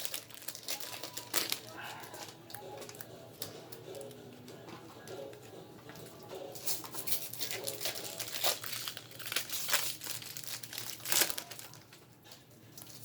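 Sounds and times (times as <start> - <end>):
wrappers crinkling and tearing: 0.0 - 4.2, 6.5 - 13.0.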